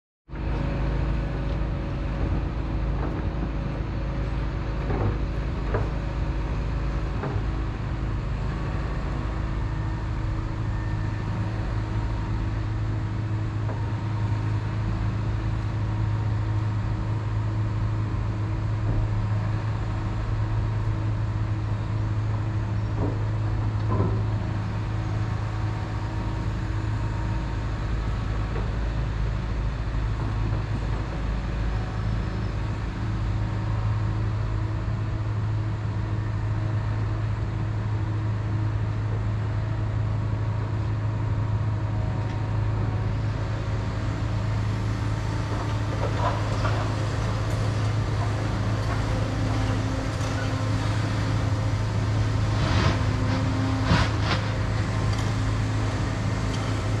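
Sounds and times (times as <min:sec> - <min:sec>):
excavator engine and hydraulics: 0:00.4 - 0:57.0.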